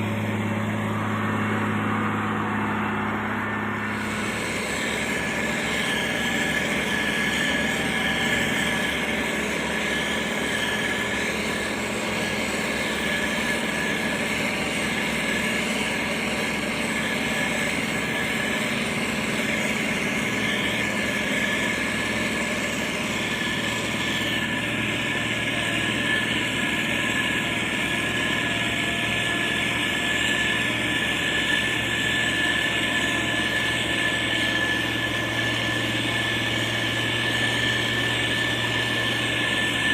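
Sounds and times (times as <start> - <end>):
diesel engine running: 0.0 - 39.9
high-pitched whine: 0.0 - 39.9.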